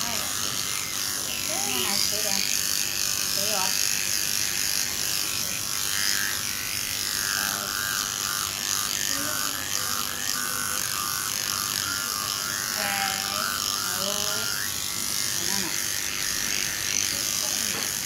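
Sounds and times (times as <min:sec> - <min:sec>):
dog clipper running: 0:00.0 - 0:18.0.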